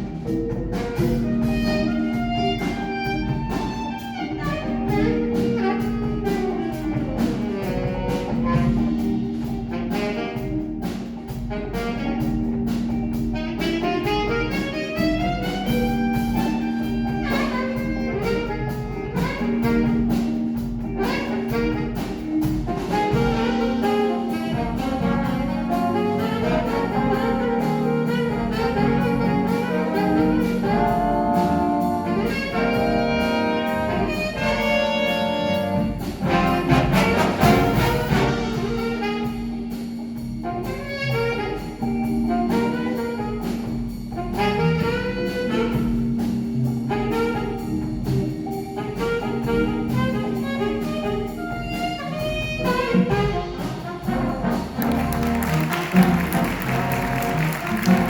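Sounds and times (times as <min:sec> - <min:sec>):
jazz music with brass and saxophone: 0:00.0 - 0:58.0.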